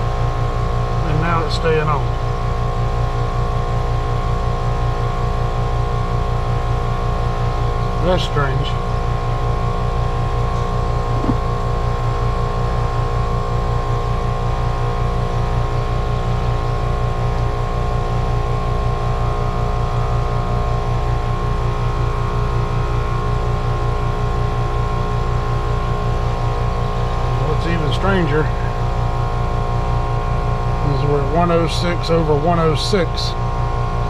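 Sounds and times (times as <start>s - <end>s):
constant machine tones: 0.0s - 34.0s
heat pump machine hum: 0.0s - 34.0s.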